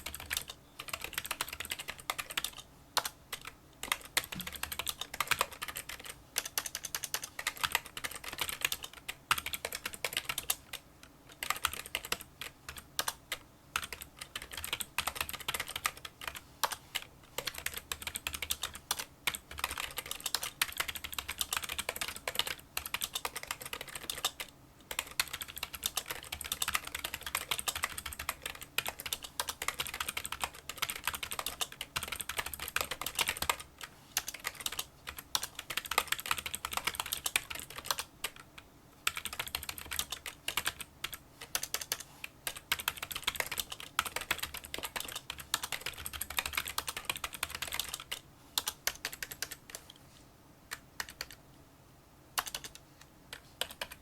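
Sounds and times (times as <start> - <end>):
keyboard typing: 0.0 - 50.0, 50.7 - 51.4, 52.4 - 54.0.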